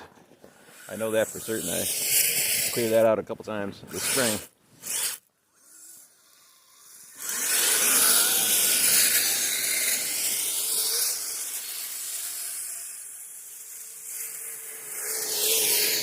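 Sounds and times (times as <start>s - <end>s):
radio-controlled vehicle motor whine: 0.4s - 3.1s, 3.9s - 16.0s.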